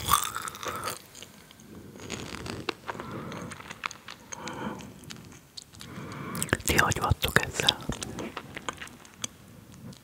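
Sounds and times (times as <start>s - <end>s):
crunchy snack chewing: 0.0s - 10.0s
wet mouth sounds: 2.0s - 10.0s.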